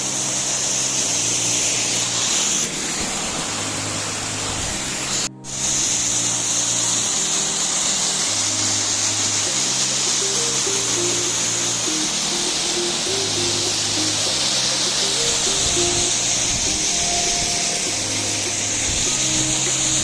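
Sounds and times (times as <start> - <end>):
instrumental background music: 0.0 - 20.0
waterfall rushing: 0.0 - 20.0.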